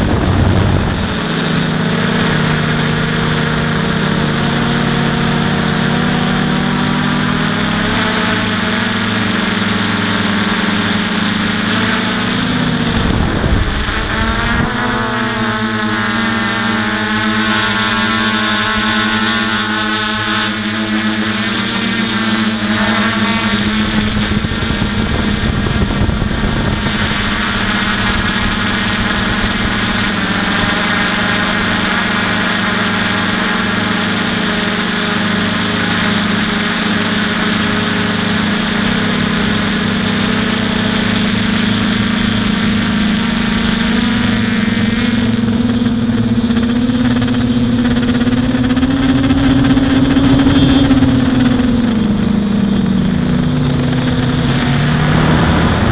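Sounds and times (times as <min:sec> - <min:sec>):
quadcopter motors buzzing: 0:00.0 - 0:55.9.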